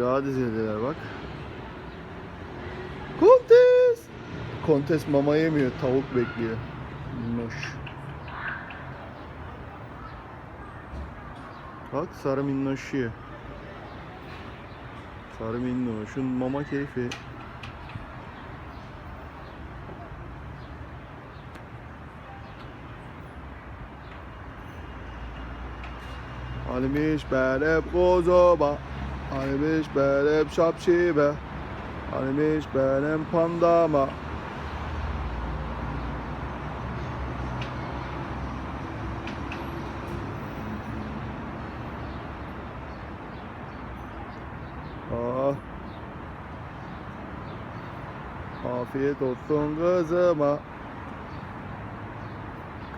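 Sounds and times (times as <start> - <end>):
traffic noise: 0.0 - 52.9.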